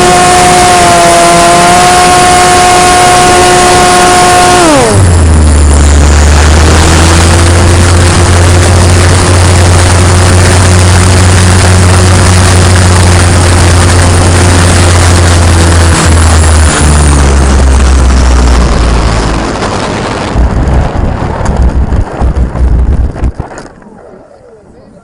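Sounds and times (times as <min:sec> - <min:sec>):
wind rushing: 0:00.0 - 0:24.0
motor and propeller drone: 0:00.0 - 0:25.0.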